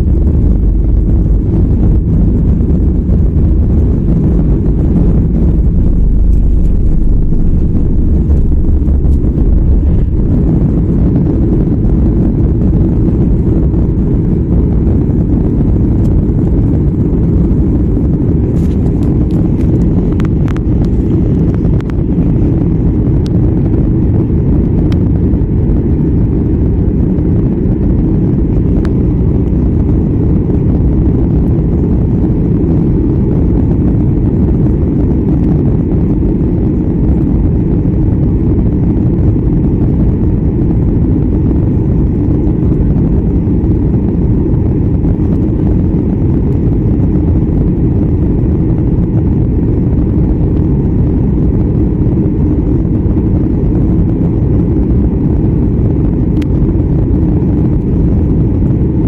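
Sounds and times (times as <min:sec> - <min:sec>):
deep runway rumble: 0:00.0 - 0:59.0
jet engines roaring: 0:00.0 - 0:59.0.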